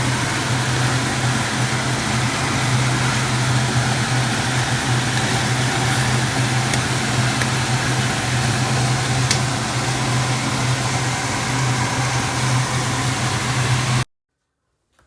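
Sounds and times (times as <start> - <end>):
mechanical hum: 0.0 - 14.1.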